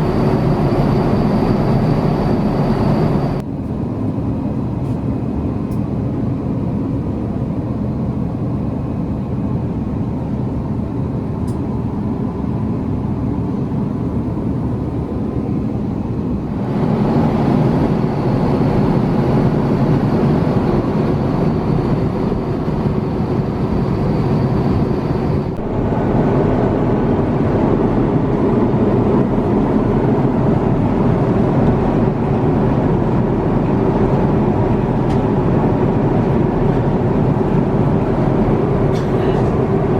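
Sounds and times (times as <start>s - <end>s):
jet engine cabin roar: 0.0s - 39.9s.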